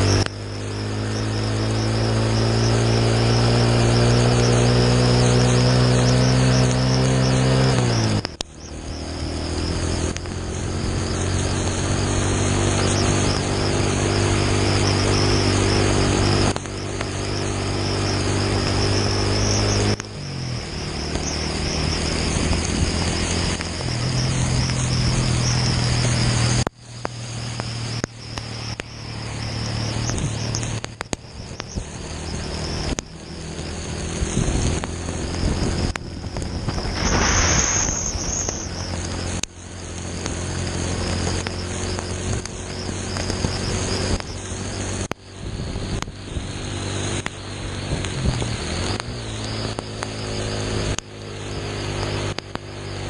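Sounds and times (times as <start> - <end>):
heavy rain hiss: 0.0 - 53.0
motorcycle engine running: 0.0 - 53.0
thin high wavering whine: 0.0 - 53.0.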